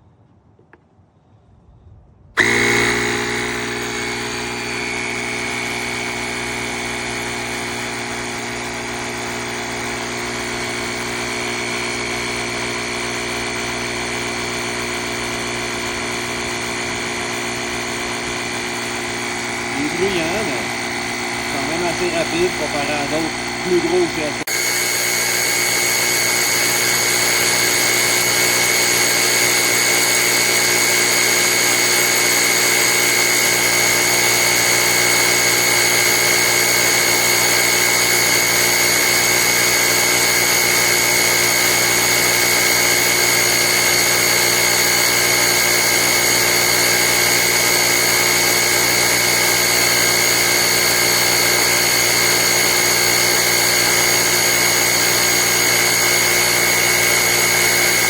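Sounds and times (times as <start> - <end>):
small air compressor running: 2.4 - 58.0.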